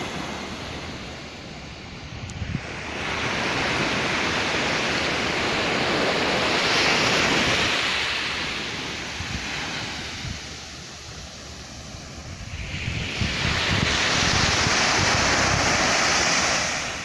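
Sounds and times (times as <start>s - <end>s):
wave breaking and washing in: 0.0s - 17.0s.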